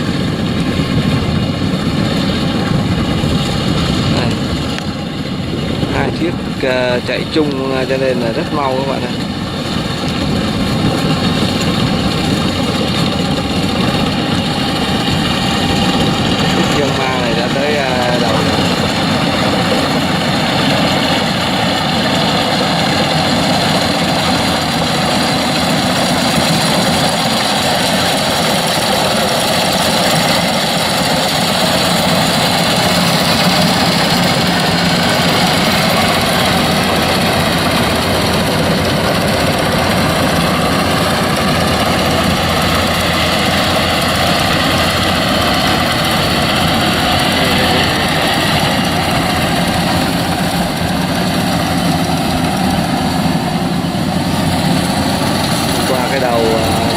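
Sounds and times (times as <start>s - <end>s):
combine harvester engine and machinery: 0.0s - 56.9s.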